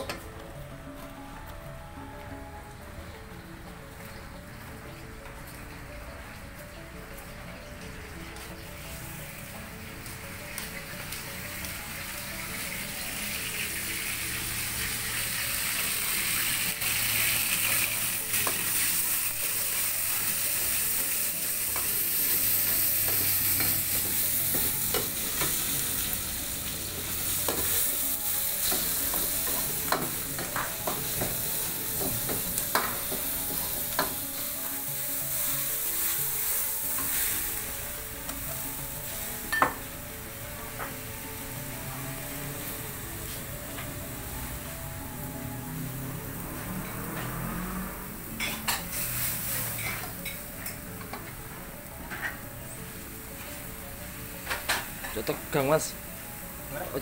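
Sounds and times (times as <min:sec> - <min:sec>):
food sizzling in a pan: 0:07.1 - 0:57.0.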